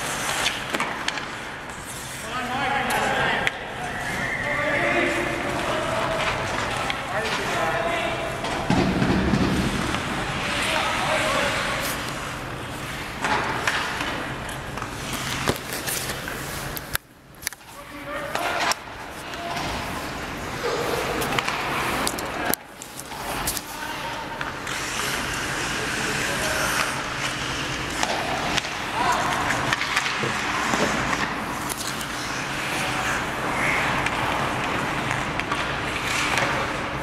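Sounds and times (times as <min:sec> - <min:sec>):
skates scraping on ice: 0:00.0 - 0:16.9, 0:17.6 - 0:37.0
hockey sticks and puck clacking: 0:00.0 - 0:37.0.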